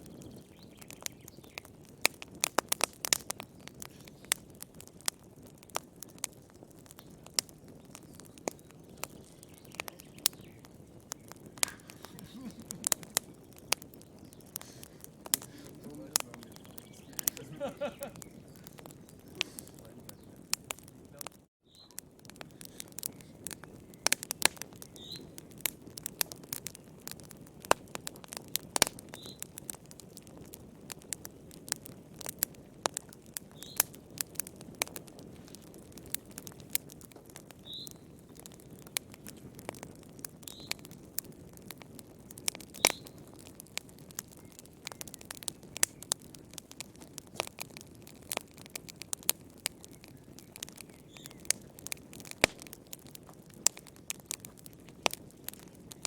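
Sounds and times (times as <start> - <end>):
fire crackling and popping: 0.0 - 56.0
low rush of burning: 0.0 - 56.0.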